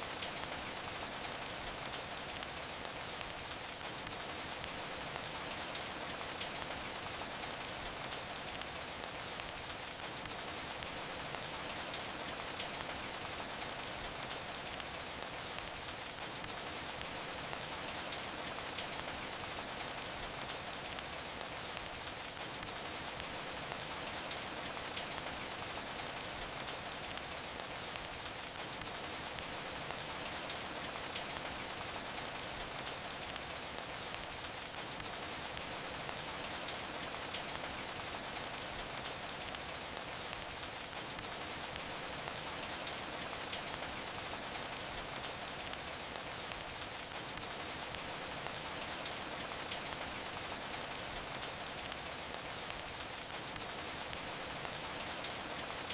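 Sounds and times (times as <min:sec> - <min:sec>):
steady rain falling: 0:00.0 - 0:55.9
wood fire crackling: 0:00.1 - 0:55.9.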